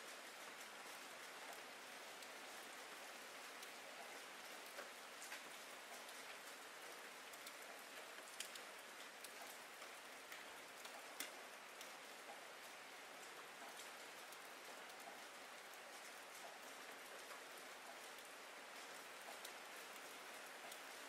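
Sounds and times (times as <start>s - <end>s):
faint rain hiss: 0.0s - 21.0s
raindrop ticks: 0.2s - 2.3s, 3.0s - 21.0s.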